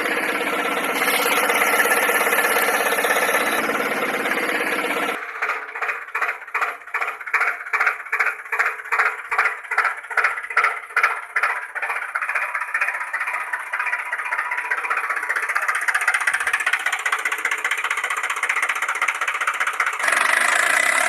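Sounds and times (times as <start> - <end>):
engine-like chugging: 0.0 - 21.0.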